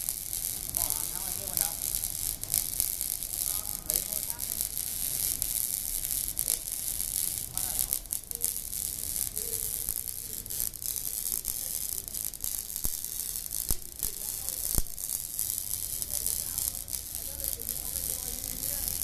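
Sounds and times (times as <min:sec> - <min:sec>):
arc welding crackling hiss: 0:00.0 - 0:19.0
welding pops: 0:00.0 - 0:19.0.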